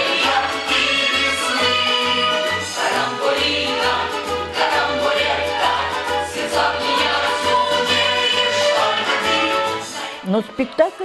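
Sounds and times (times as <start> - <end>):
chorus singing: 0.0 - 10.6.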